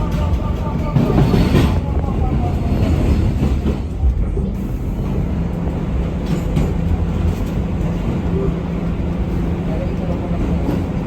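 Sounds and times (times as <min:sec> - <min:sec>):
subway wheels rumbling on rails: 0:00.0 - 0:11.0.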